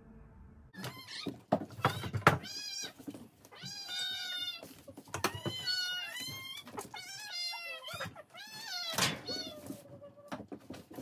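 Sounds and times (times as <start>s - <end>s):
cat meowing: 0.8s - 9.8s.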